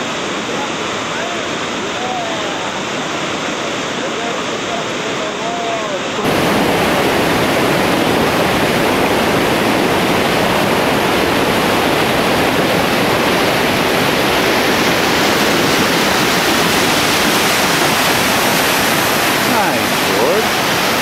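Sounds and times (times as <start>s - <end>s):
loud rushing whitewater: 0.0s - 21.0s.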